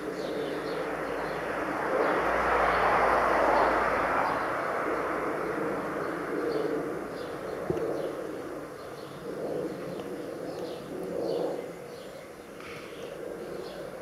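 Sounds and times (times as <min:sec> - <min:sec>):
jet airliner flying overhead: 0:00.0 - 0:14.0.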